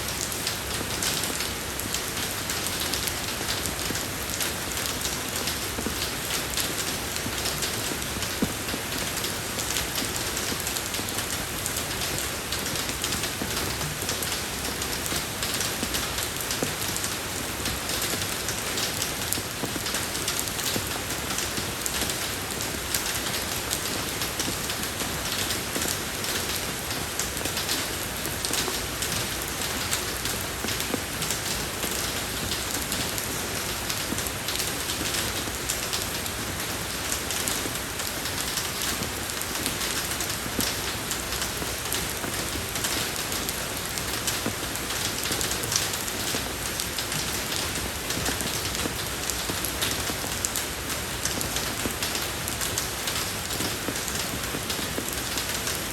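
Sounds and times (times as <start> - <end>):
rain falling on a road: 0.0 - 55.9.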